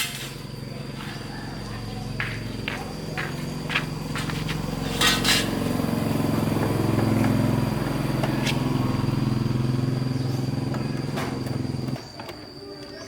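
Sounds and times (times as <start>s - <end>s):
engine running: 0.4s - 12.1s.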